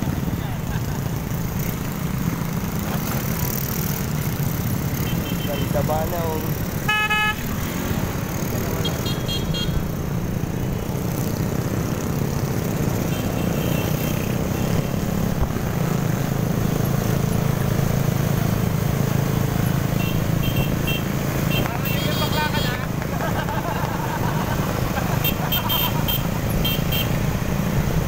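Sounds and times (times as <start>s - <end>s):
motorcycle engine running: 0.1s - 28.0s.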